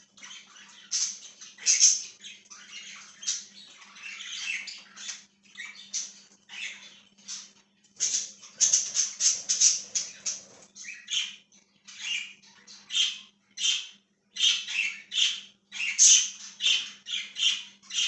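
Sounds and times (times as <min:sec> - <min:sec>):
budgerigars chattering and chirping: 0:00.0 - 0:18.0.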